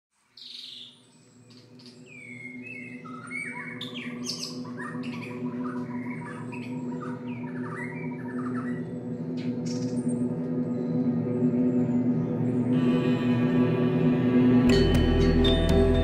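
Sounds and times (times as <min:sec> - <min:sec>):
birds chirping and trilling: 0:00.2 - 0:16.0
low musical drone: 0:01.6 - 0:16.0.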